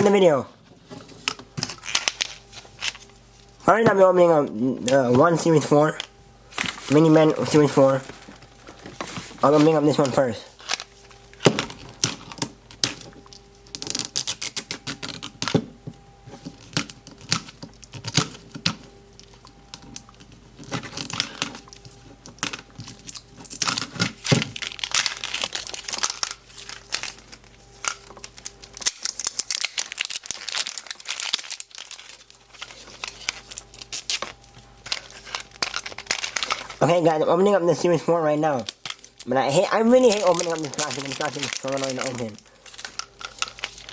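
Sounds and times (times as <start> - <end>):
plastic wrapping crinkling and tearing: 1.2 - 3.6, 4.8 - 15.6, 16.4 - 43.9.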